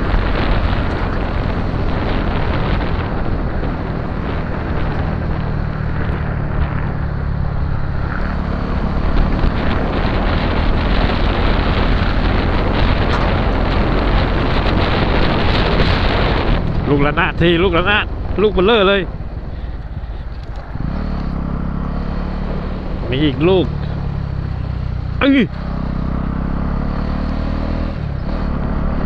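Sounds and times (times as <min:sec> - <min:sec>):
motorcycle engine running: 0:00.0 - 0:27.0
wind noise on microphone: 0:00.0 - 0:29.0.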